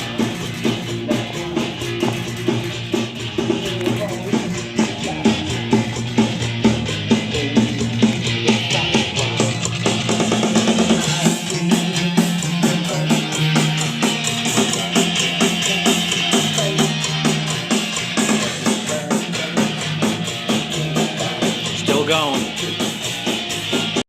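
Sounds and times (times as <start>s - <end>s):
rock band music: 0.0s - 24.0s.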